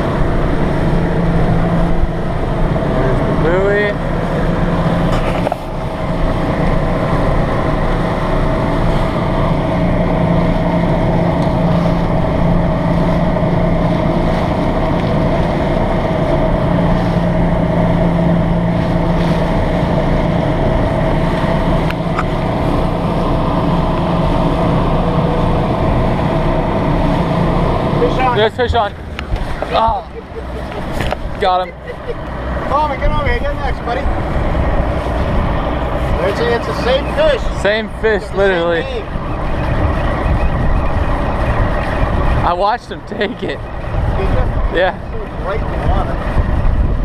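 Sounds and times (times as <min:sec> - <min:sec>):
outboard motors droning: 0:00.0 - 0:47.0
wind and water rushing: 0:00.0 - 0:47.0.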